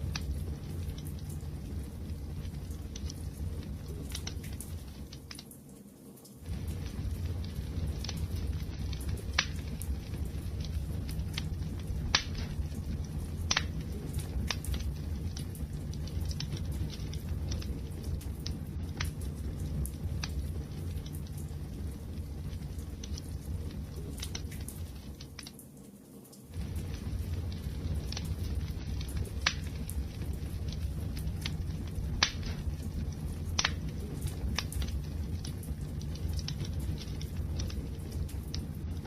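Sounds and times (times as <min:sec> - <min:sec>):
wood fire rumbling: 0:00.0 - 0:05.5, 0:06.4 - 0:25.9, 0:26.5 - 0:39.0
fire popping and crackling: 0:00.0 - 0:39.0.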